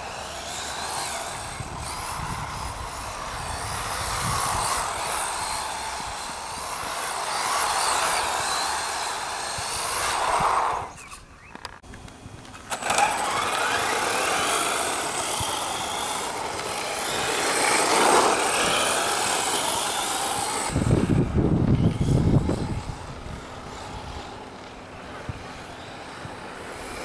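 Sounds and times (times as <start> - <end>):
toy car motor whining: 0.0 - 27.0.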